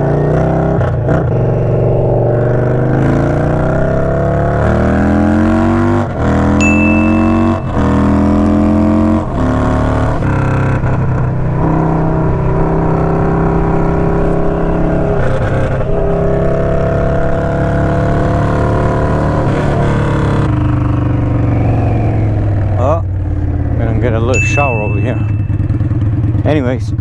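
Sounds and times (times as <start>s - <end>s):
motorcycle engine accelerating: 0.0s - 26.7s.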